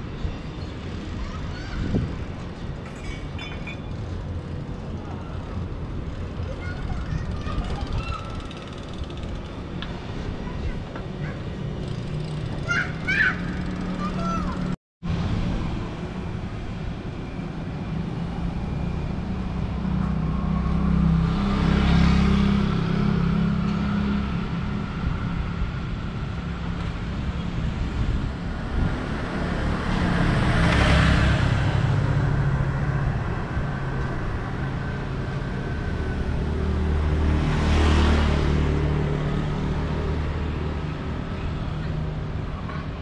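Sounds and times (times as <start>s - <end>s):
vehicles passing: 0.0s - 43.0s.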